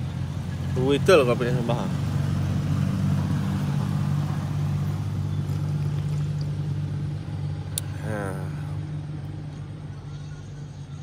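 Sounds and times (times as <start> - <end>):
low motor hum: 1.9 - 11.0.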